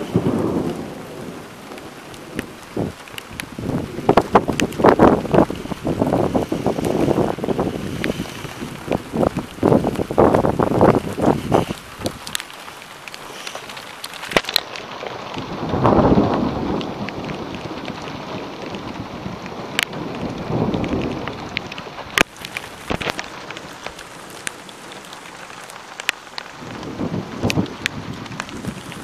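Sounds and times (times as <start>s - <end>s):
rain hissing: 0.0s - 29.0s
thunder rumbling: 0.0s - 29.0s.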